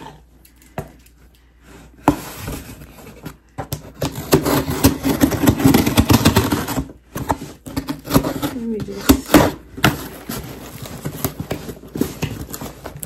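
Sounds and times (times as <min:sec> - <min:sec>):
scissors cutting tape and cardboard: 0:02.0 - 0:13.0.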